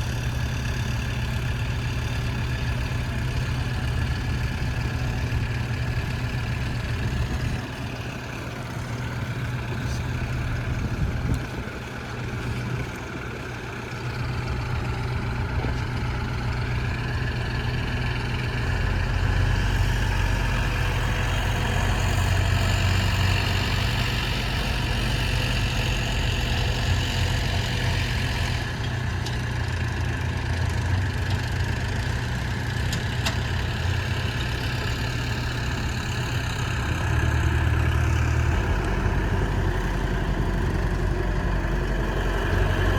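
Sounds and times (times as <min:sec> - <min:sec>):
diesel engines idling: 0:00.0 - 0:42.9.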